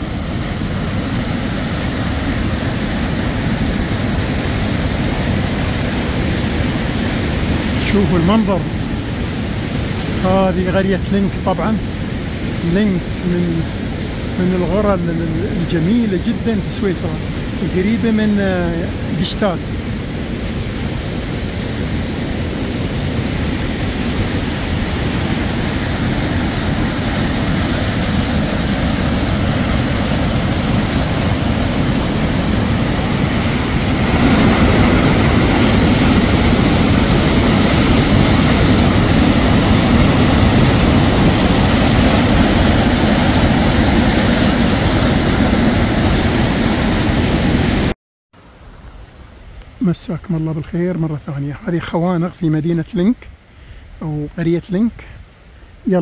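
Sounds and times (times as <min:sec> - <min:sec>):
waterfall rushing over rock: 0:00.0 - 0:48.0.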